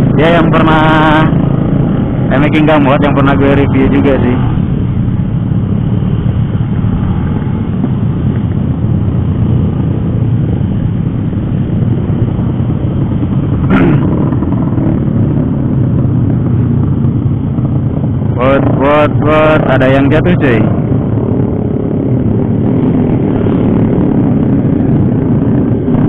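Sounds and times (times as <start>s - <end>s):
motorcycle engine and wind rumble: 0.0s - 26.0s.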